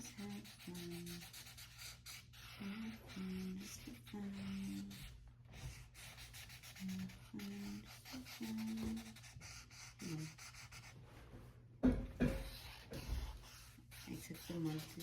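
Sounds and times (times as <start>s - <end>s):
marker scratching on paper: 0.0s - 11.0s, 12.2s - 15.0s.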